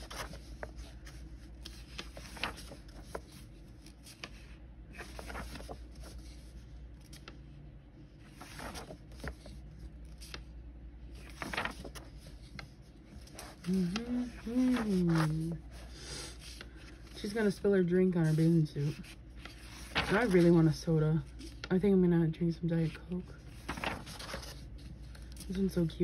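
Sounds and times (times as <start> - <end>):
paper pages rustling: 0.0 - 21.7, 22.8 - 26.0
faint steady hum: 0.0 - 26.0.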